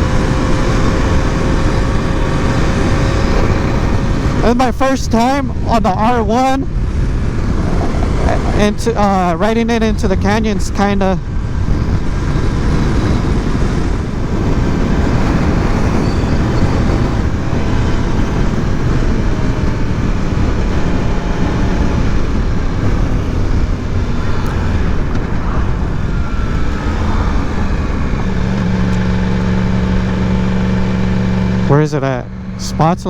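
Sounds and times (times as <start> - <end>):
motorcycle engine: 0.0 - 33.0
wind rushing on microphone: 0.0 - 33.0.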